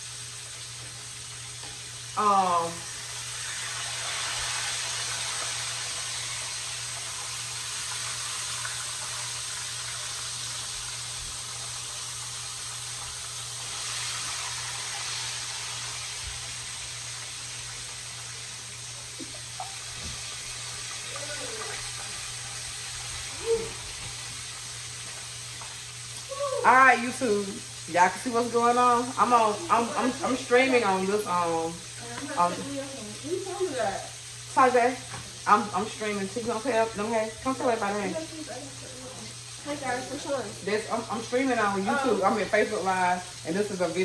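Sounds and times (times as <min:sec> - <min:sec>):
fish frying in oil: 0:00.0 - 0:44.0.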